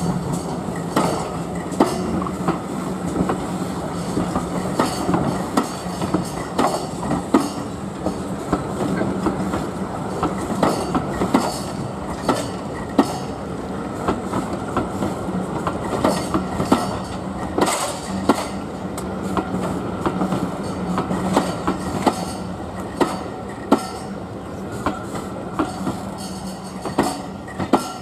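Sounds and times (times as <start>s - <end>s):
train wheels clicking over rail joints: 0.0s - 28.0s.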